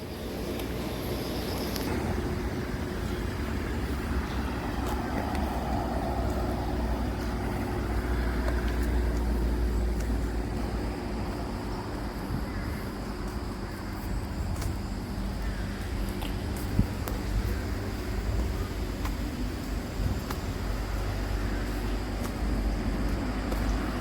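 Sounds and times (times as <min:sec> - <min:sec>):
vehicle road noise rumble: 0:00.0 - 0:24.0.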